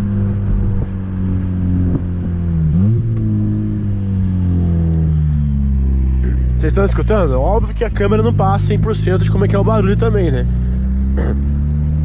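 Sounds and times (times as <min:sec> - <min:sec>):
car engine and exhaust droning: 0:00.0 - 0:12.0.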